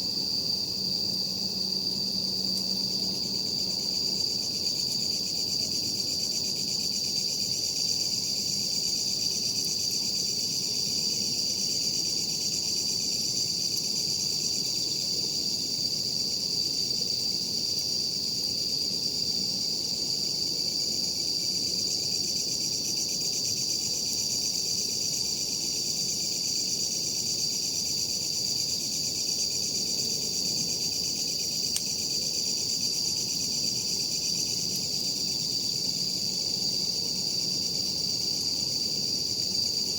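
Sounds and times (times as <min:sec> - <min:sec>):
night insects chorus: 0:00.0 - 0:39.9.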